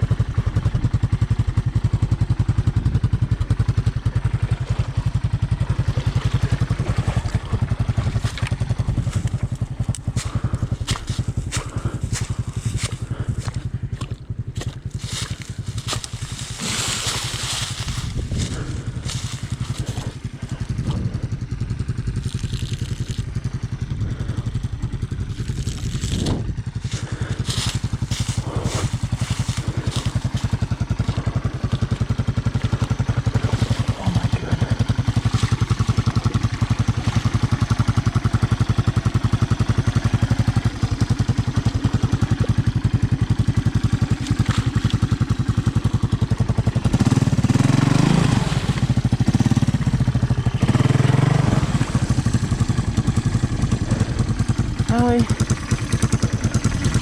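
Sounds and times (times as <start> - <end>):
single-cylinder engine running with clatter: 0.0 - 57.0.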